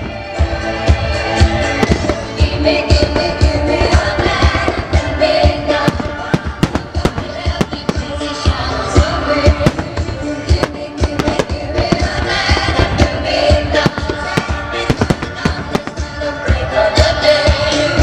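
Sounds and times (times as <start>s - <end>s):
fireworks banging: 0.0s - 18.0s
loud music: 0.0s - 18.0s.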